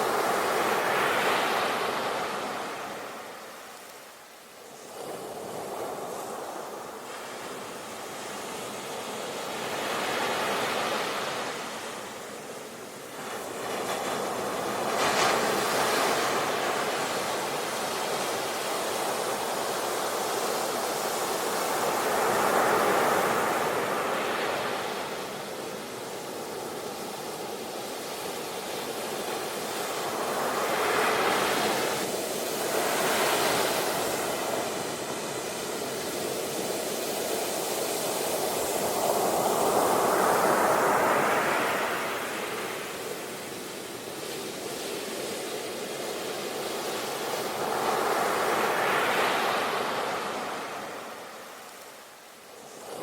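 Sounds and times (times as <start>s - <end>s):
waves breaking and washing in: 0.0s - 53.0s.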